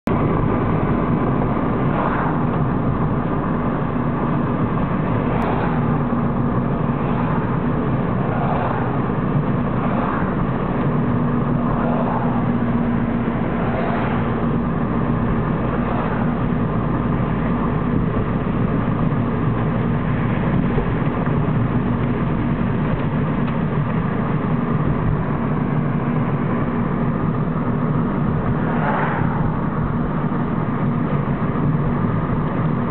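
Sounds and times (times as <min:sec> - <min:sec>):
low engine hum: 0:00.0 - 0:32.9
tyres rumbling on road: 0:00.0 - 0:32.9.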